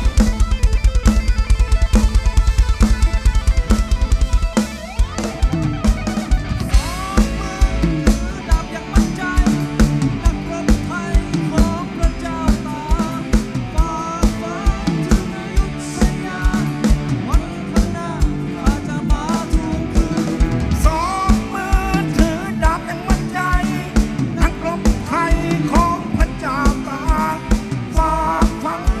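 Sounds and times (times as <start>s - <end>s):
electric guitar lead: 0.0s - 29.0s
live rock band: 0.0s - 29.0s
rapid kick drum strokes: 0.0s - 29.0s.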